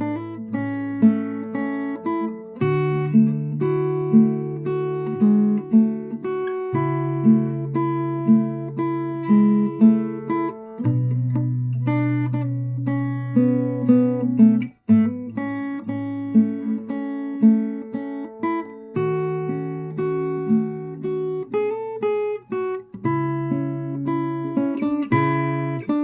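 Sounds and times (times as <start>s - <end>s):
fingerstyle acoustic guitar: 0.0s - 26.0s.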